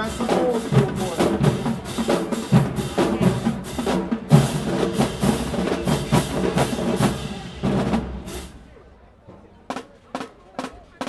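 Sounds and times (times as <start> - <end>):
marching band drums: 0.0 - 11.0.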